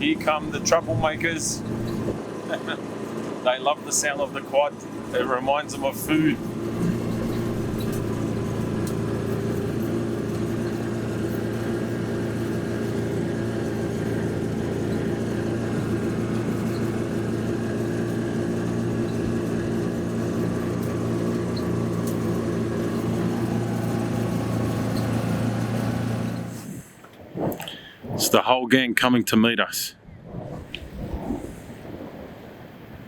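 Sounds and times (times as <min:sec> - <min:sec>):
quad bike engine running: 0:00.0 - 0:26.9.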